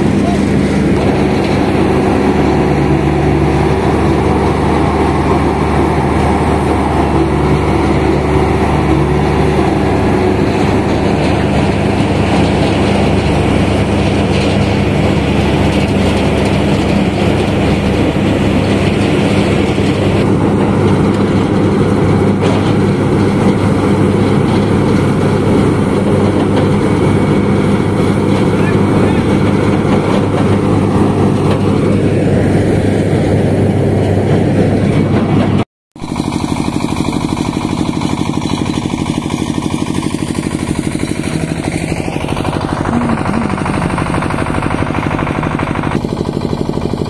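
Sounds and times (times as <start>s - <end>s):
road-paving machinery engines running: 0.0s - 47.0s.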